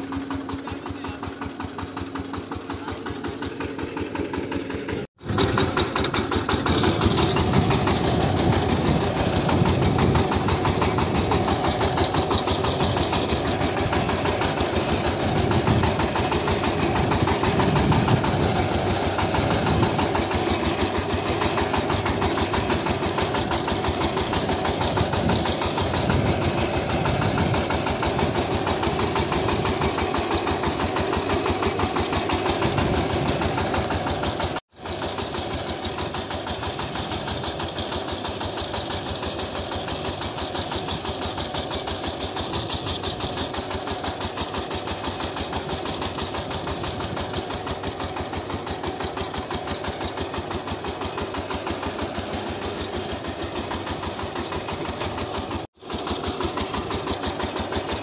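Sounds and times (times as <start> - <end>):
diesel tiller engine running: 0.0 - 58.0.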